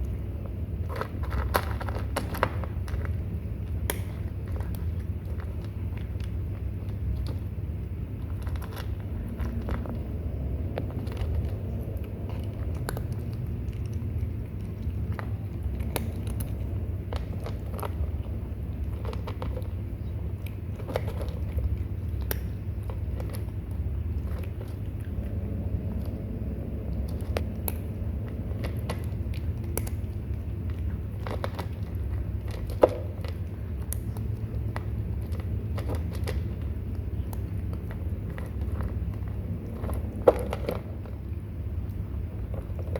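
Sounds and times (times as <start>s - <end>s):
kittens crunching and chewing: 0.0s - 42.9s
low rumble: 0.0s - 42.9s.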